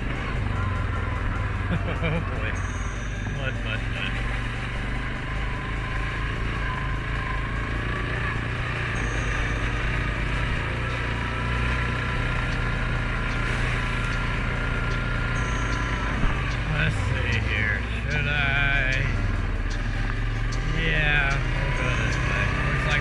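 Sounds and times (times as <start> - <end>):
quad bike engine running: 0.0 - 23.0
thin whine: 0.0 - 23.0.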